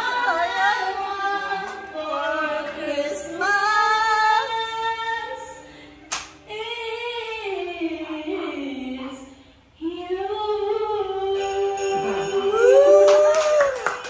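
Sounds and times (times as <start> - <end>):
woman singing into microphone: 0.0 - 5.8, 6.4 - 13.3.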